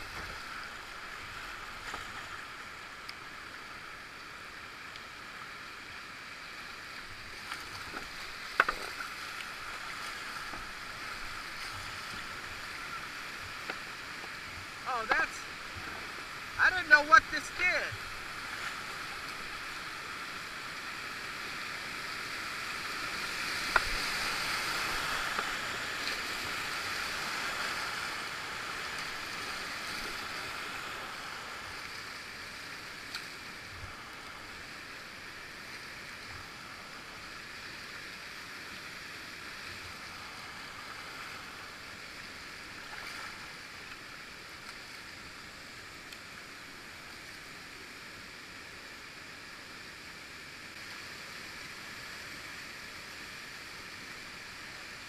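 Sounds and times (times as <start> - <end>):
rushing river water: 0.0 - 55.0.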